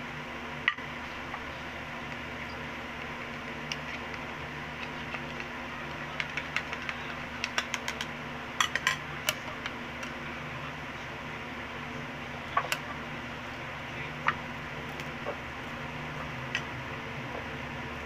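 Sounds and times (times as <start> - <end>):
fan humming: 0.0 - 18.0.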